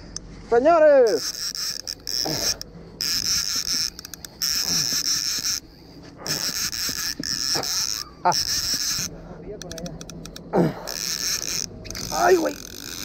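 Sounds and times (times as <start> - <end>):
fishing reel drag buzzing: 0.8 - 13.0
fishing reel rapid clicking: 1.0 - 13.0.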